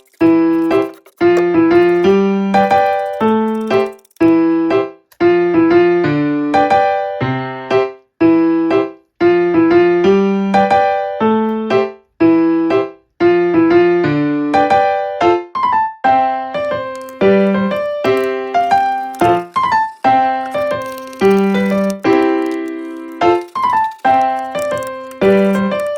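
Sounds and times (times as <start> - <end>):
light piano tune: 0.0 - 25.9.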